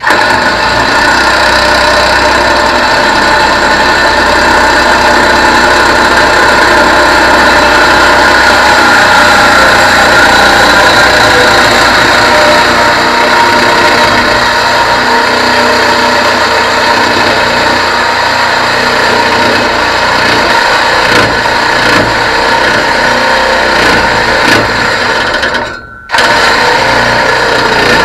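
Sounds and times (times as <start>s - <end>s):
abrasive wheel cutting steel pipe: 0.0s - 28.0s.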